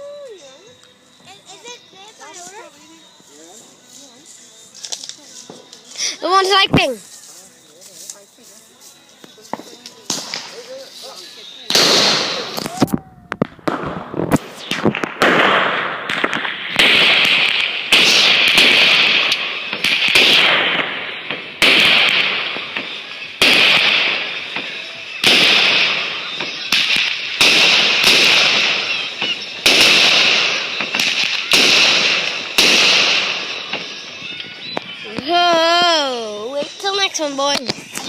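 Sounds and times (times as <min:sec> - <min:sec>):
fireworks popping and crackling: 0:00.0 - 0:38.0.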